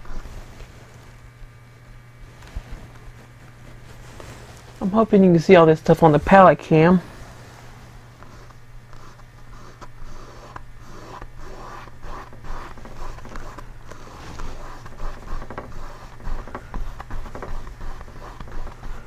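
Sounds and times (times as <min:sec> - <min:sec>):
scratchy brush strokes on canvas: 0:00.0 - 0:01.2, 0:02.2 - 0:06.5, 0:07.1 - 0:19.0.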